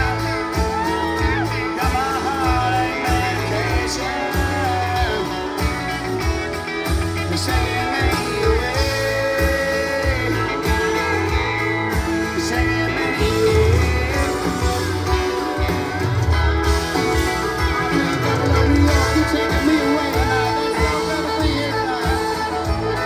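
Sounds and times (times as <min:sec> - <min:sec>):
bass guitar: 0:00.0 - 0:23.0
drums: 0:00.0 - 0:23.0
electric guitars: 0:00.0 - 0:23.0.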